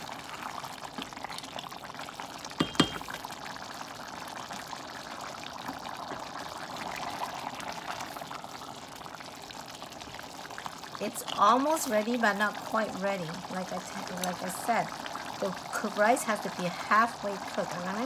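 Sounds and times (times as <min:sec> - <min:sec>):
rice bubbling and crackling: 0:00.0 - 0:18.0.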